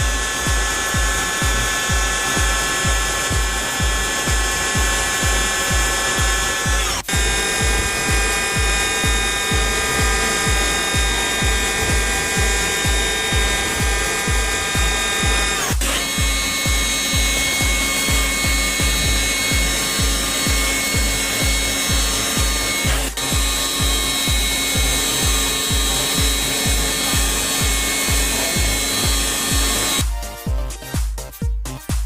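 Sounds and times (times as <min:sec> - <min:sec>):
power tool whine: 0:00.0 - 0:30.1
background music with steady beat: 0:00.0 - 0:32.0.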